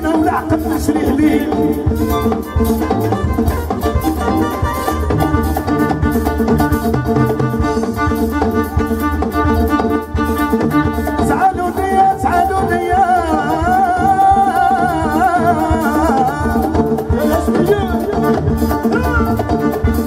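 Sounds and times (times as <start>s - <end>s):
electric bass: 0.0s - 20.0s
hand frame drums and percussion: 0.0s - 20.0s
keyboard: 0.0s - 20.0s
high ornamented melody line: 0.2s - 20.0s.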